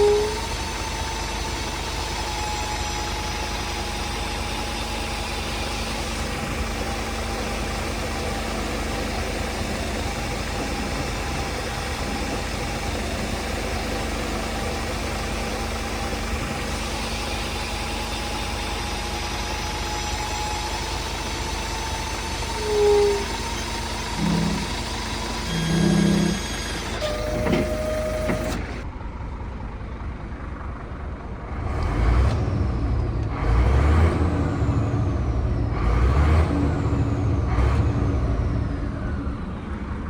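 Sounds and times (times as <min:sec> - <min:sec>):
truck diesel engine idling: 0:00.0 - 0:40.0.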